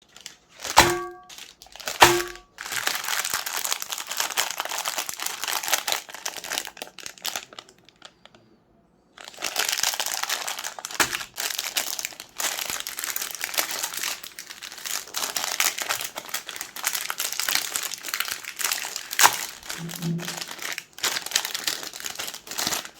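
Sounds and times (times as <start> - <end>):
plastic wrappers crinkling: 0.0 - 8.4, 9.2 - 22.9.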